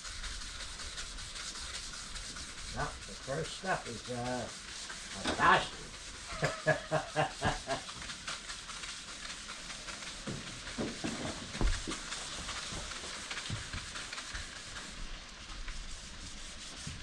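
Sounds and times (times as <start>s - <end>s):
sandpaper rubbing a surface: 0.0s - 17.0s.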